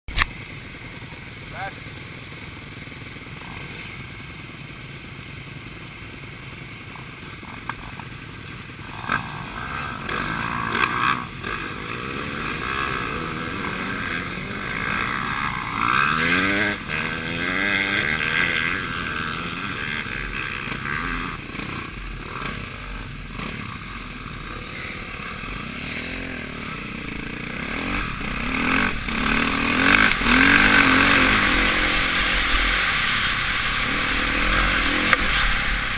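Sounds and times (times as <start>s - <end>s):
motocross bike engine revving: 0.1s - 35.9s.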